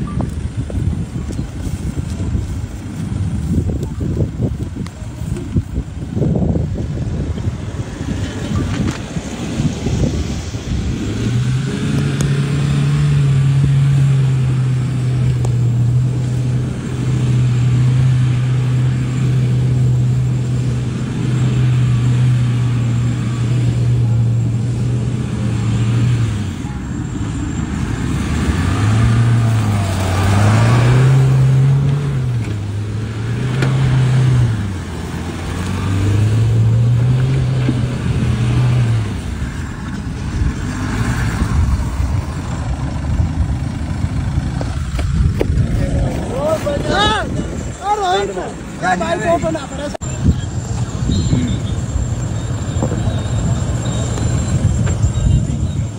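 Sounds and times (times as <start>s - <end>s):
engine revving high: 7.7s - 55.9s.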